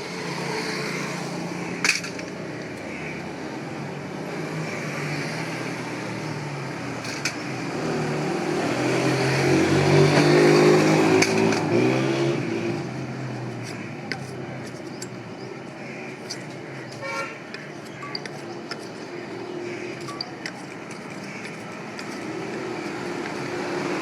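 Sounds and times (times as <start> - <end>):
street background noise: 0.0 - 24.0.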